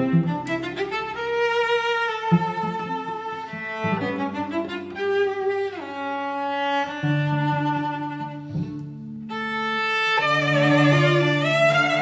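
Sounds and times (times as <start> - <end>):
cellos bowing sustained notes: 0.0 - 12.0.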